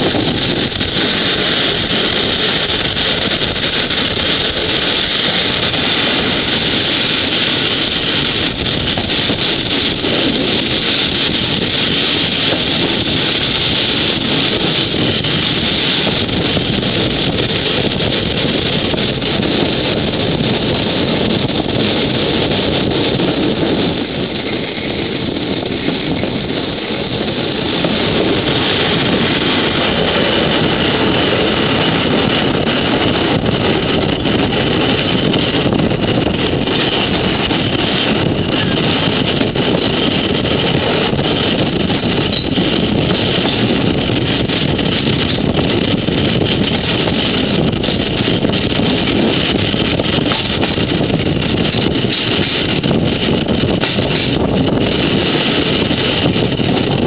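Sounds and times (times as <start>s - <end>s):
moving vehicle running noise: 0.0s - 57.0s
wind buffeting microphone: 0.0s - 57.0s.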